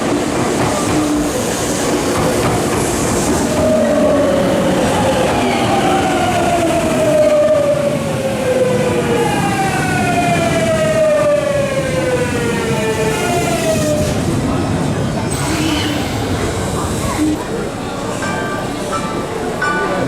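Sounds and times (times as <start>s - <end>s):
train running noise: 0.0s - 20.0s.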